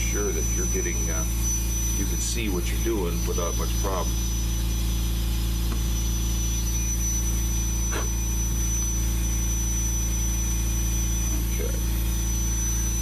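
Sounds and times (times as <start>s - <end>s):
power carver whining: 0.0s - 13.0s.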